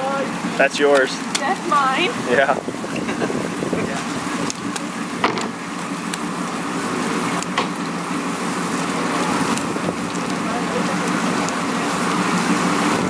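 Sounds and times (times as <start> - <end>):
water hose spraying: 0.0 - 13.0.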